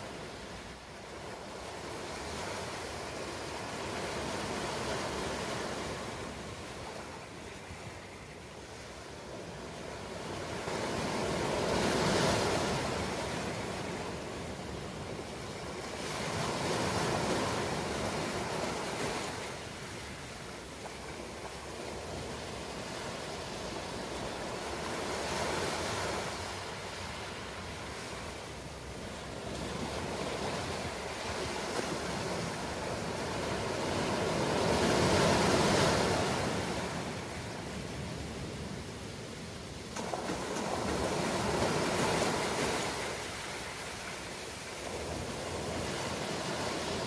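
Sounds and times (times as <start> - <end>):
ocean waves breaking on shore: 0.0 - 47.0.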